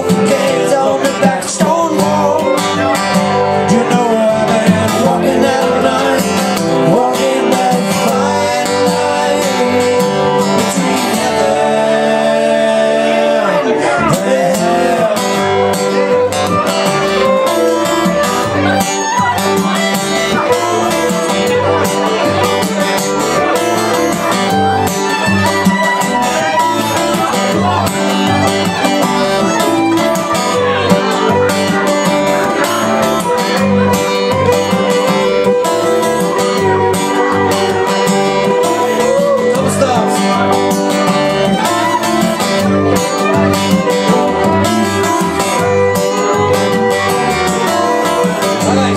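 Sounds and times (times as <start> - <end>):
fiddle melody: 0.0 - 48.9
strummed acoustic guitars: 0.0 - 48.9.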